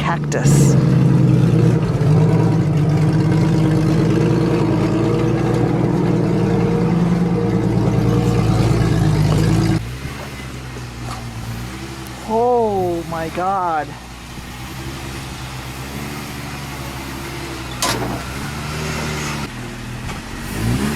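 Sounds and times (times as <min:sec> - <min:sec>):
car engine running: 0:00.0 - 0:20.9.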